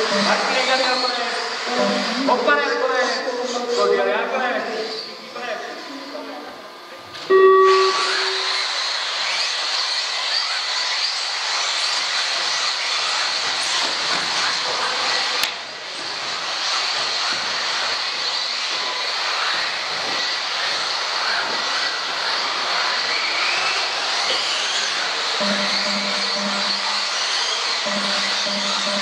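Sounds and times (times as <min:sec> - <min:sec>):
high-pitched motor whine: 0:00.0 - 0:06.1, 0:07.3 - 0:29.0.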